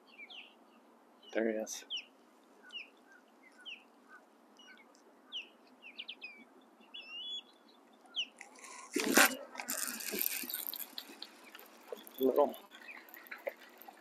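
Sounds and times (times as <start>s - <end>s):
wild birds chirping: 0.0s - 14.0s.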